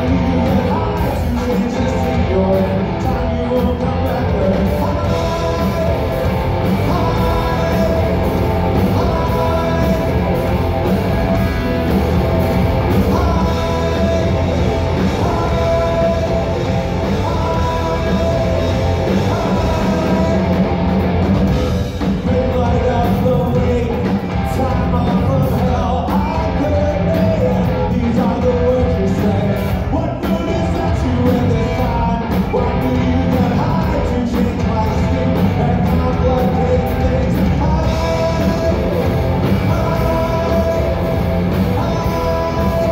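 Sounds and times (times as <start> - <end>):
person singing: 0.0 - 12.0, 12.8 - 20.7, 21.9 - 42.9
live rock band playing: 0.0 - 42.9.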